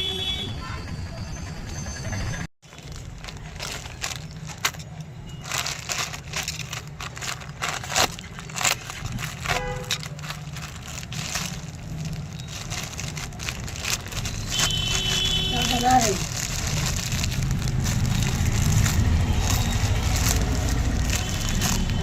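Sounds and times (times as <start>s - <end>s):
plastic packaging crinkling: 2.6s - 22.0s.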